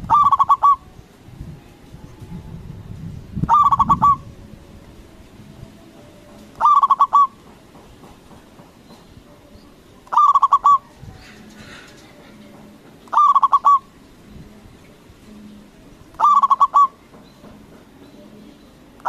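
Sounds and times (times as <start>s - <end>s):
dove cooing in pulsed phrases: 0.0s - 7.6s, 9.3s - 18.7s.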